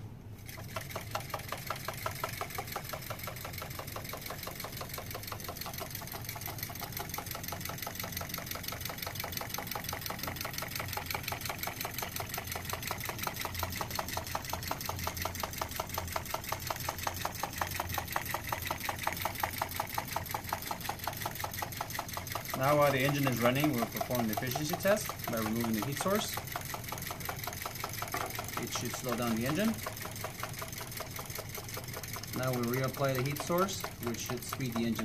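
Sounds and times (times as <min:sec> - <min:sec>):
small engine rapid ticking: 0:00.0 - 0:35.0.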